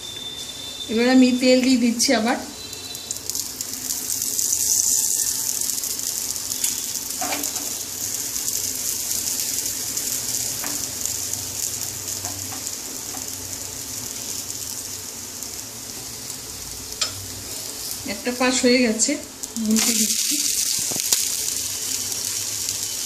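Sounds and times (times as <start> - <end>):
batter sizzling in oil: 0.0 - 23.0.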